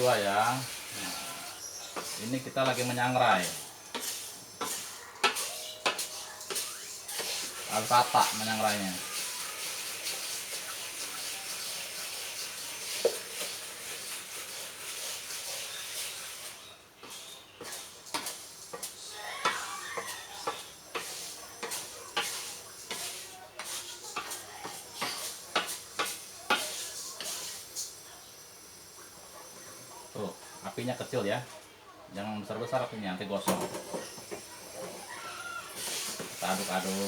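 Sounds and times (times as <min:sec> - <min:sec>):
utensil scraping a pan: 0:00.0 - 0:27.9, 0:33.8 - 0:37.0
steady hiss of roasting: 0:00.0 - 0:37.0.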